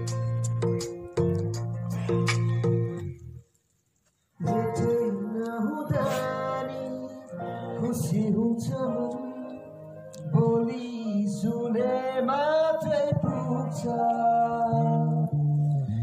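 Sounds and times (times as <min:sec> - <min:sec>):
slow song with held notes: 0:00.0 - 0:16.0.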